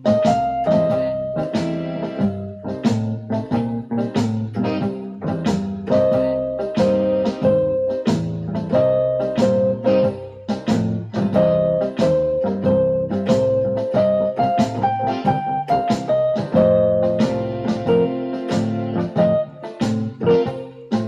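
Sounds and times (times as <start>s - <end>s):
blues electronic keyboard: 0.0s - 21.0s.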